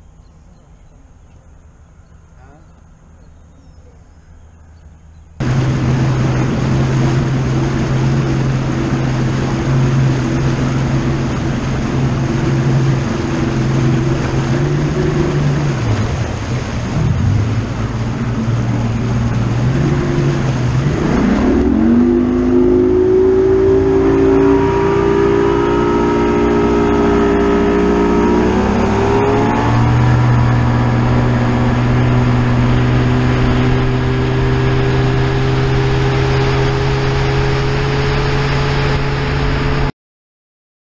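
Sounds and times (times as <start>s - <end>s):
outboard motor running: 0.8s - 39.9s.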